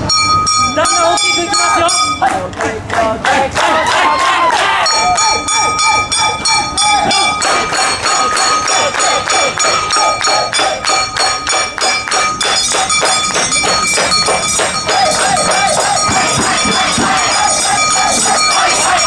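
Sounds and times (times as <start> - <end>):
ringing tones: 0.0 - 2.3, 4.8 - 19.0
percussion strikes: 0.0 - 19.0
voices: 0.0 - 19.0.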